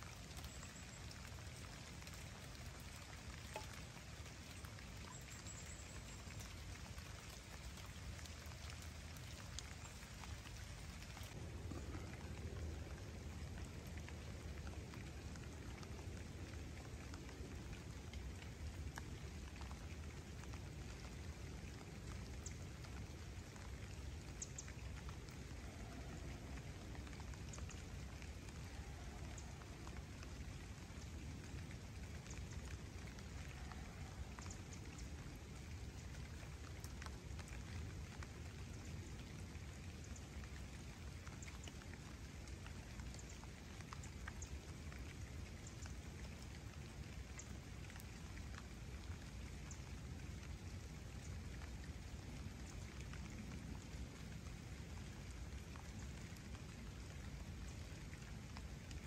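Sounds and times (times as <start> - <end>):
light rain on lake and foliage: 0.0 - 59.0.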